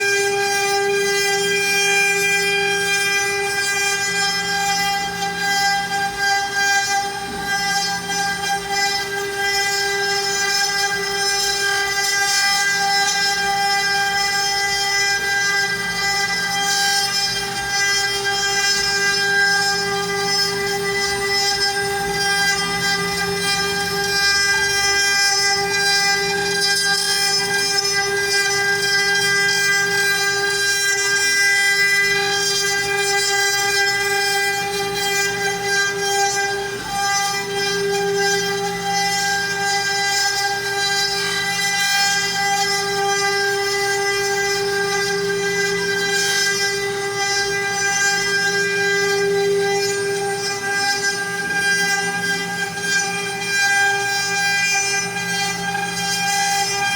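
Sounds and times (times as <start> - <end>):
router spindle whining: 0.0 - 56.9.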